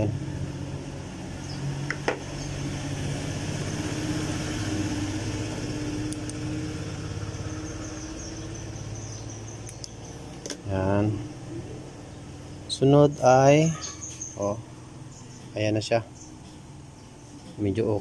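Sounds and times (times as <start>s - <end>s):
motor hum: 0.0s - 17.9s.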